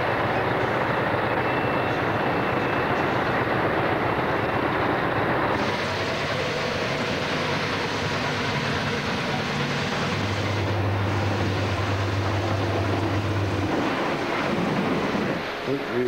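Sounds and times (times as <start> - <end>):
engine and road noise in cab: 0.0 - 15.8.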